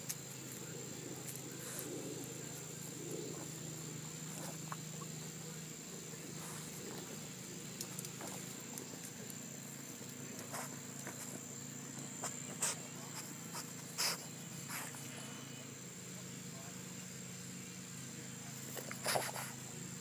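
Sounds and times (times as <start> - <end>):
dog snorting and sniffing: 0.0 - 15.5, 18.6 - 19.8.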